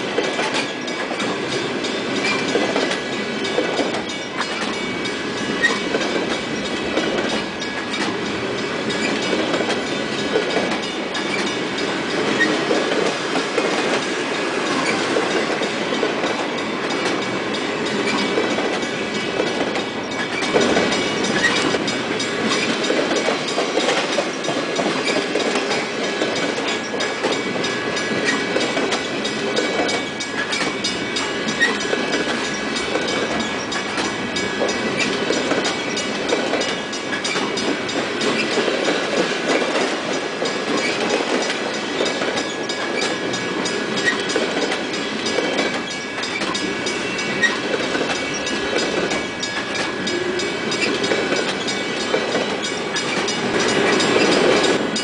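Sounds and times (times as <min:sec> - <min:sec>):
train wheels rumbling on rails: 0:00.0 - 0:55.0
wheels clicking over rail joints: 0:00.1 - 0:55.0.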